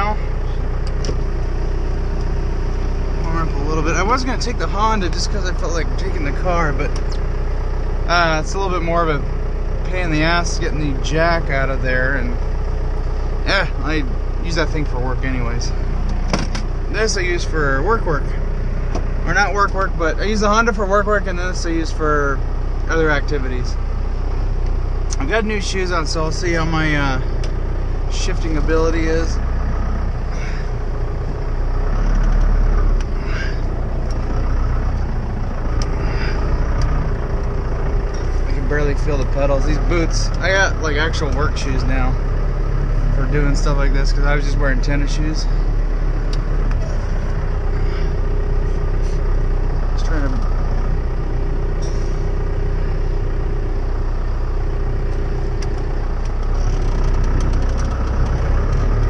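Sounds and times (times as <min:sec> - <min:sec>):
pickup truck engine pulling away: 0:00.0 - 0:59.0.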